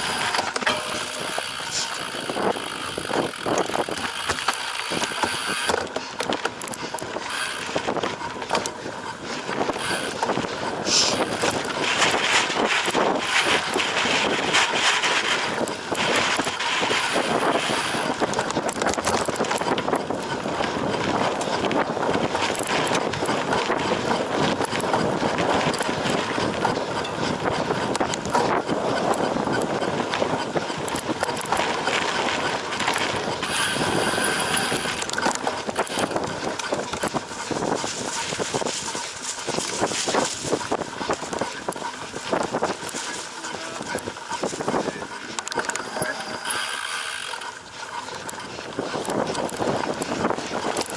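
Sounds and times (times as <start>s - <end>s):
bike chain and frame clattering: 0.0s - 50.9s
bike tyres on dirt and grass: 0.0s - 50.9s.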